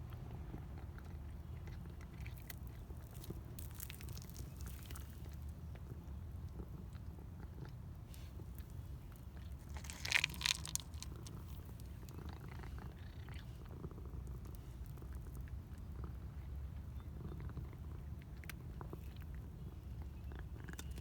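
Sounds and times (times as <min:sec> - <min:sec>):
cat purring: 0:00.2 - 0:21.0.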